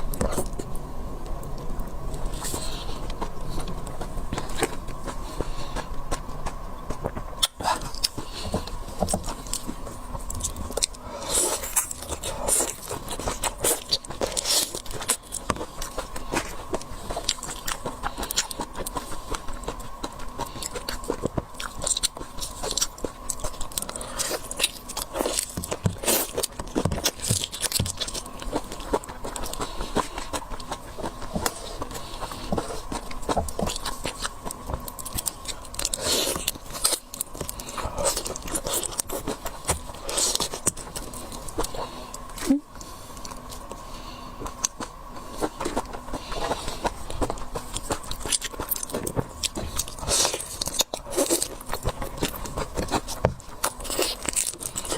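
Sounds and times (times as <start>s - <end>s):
chewing crunchy seafood: 0.0s - 54.9s.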